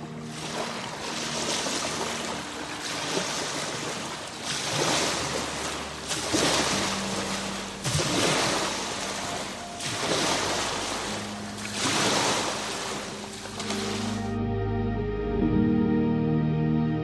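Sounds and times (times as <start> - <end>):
ocean waves washing in: 0.0 - 14.4
ambient music with low notes: 0.0 - 17.0.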